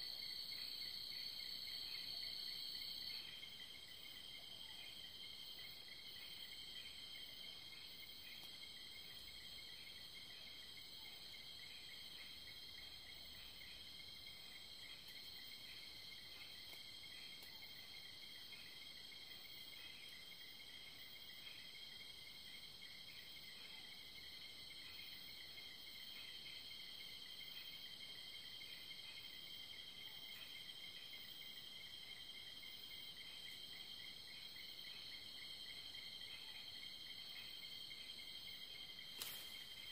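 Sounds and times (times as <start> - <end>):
crickets trilling: 0.0 - 39.9
low pulsing insect chirp: 0.0 - 39.9.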